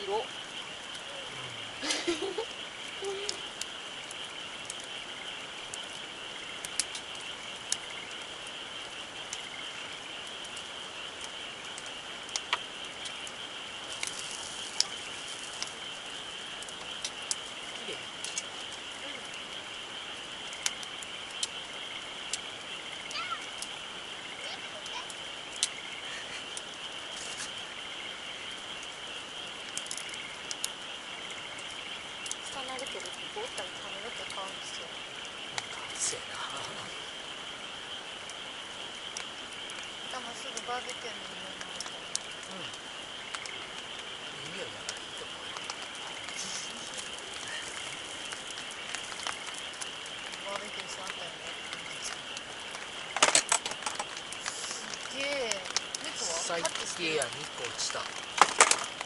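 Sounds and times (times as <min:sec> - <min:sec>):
campfire crackling and popping: 0:00.0 - 0:59.0
insects chirring: 0:00.0 - 0:59.0.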